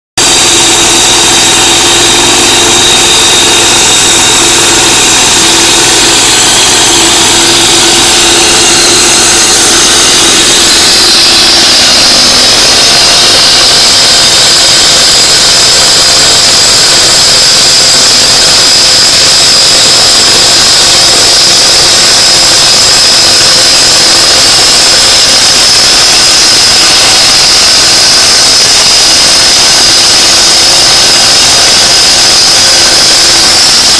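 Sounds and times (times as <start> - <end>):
concrete saw whining: 0.2 - 33.9.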